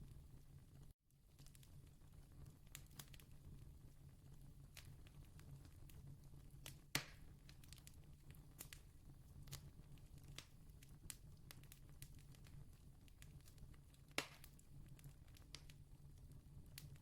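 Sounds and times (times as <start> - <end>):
fire popping: 0.1 - 17.0
campfire crackling: 1.3 - 17.0.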